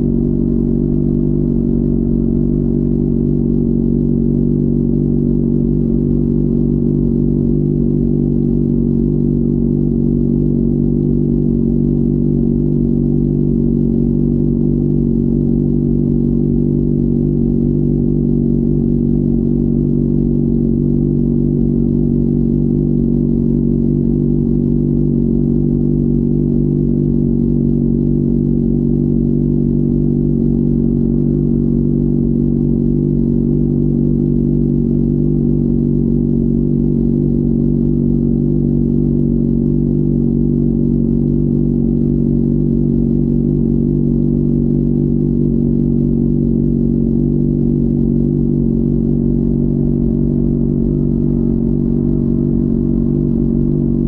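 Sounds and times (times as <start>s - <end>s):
motorcycle engine running steadily: 0.0s - 54.0s.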